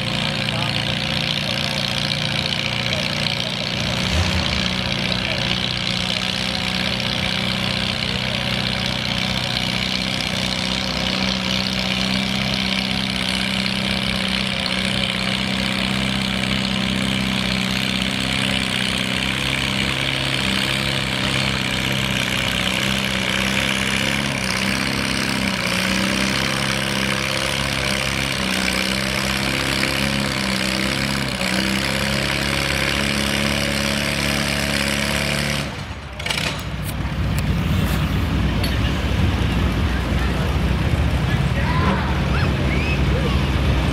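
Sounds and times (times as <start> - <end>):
tractor engine under heavy load: 0.0 - 43.9.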